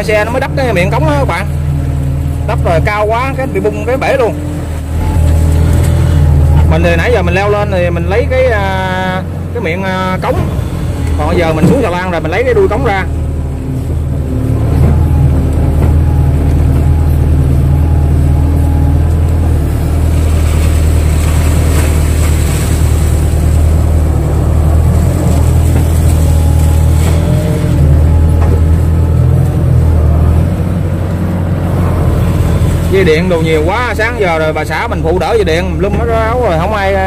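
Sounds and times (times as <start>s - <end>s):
excavator diesel engine under load: 0.0s - 37.0s.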